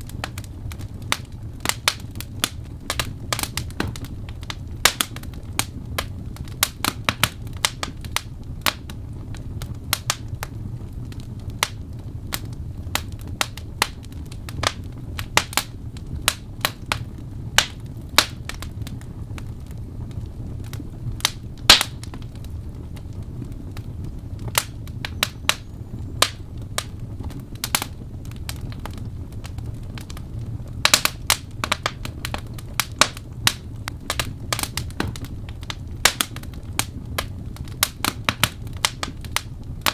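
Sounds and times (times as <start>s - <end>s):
low rumble of burning: 0.0s - 39.9s
wood fire crackling: 0.0s - 39.9s.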